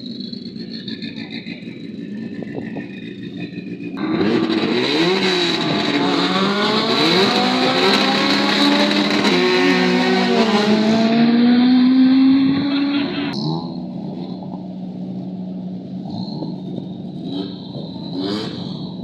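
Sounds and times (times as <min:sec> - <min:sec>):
drag racer engine accelerating: 0:00.0 - 0:19.0.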